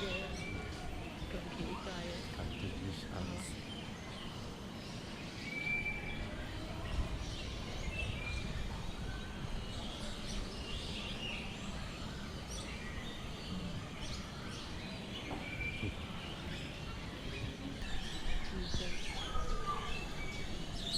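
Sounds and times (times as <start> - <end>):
birds chirping and whistling: 0.0 - 20.9.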